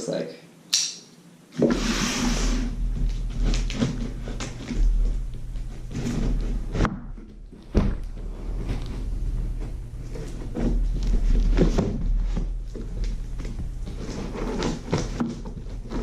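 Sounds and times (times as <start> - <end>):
low hum: 1.7 - 16.0.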